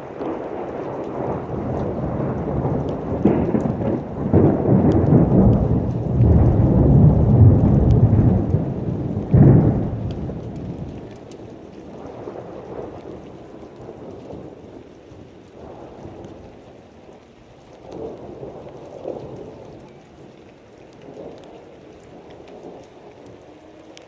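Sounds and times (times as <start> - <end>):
rolling thunder: 0.0 - 16.8, 17.8 - 23.7
heavy rain: 0.0 - 24.0.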